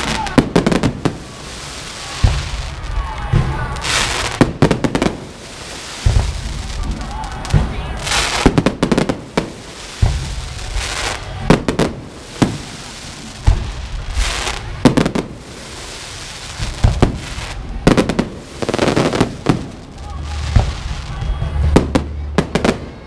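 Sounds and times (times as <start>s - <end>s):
fireworks bangs: 0.0s - 23.0s
fireworks hissing: 0.0s - 23.0s.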